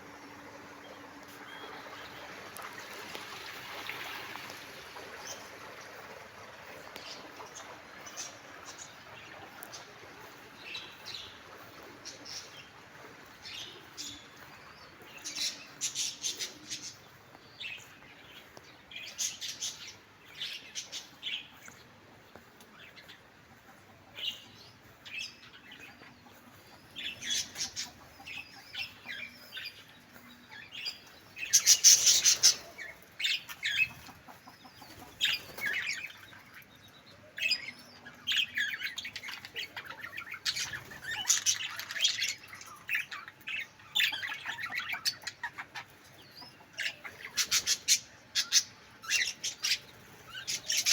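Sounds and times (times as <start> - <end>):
birds chirping and squawking: 0.0 - 50.9.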